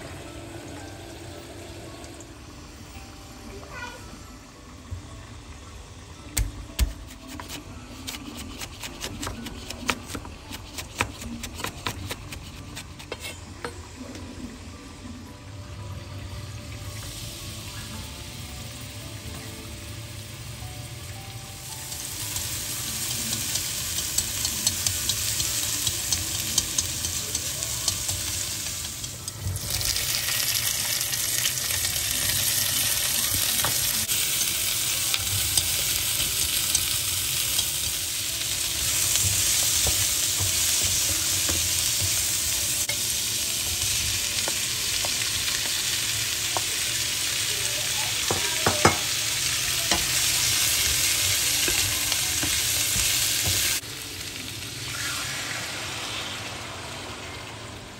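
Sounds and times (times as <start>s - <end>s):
food sizzling in a pan: 0.0s - 57.9s.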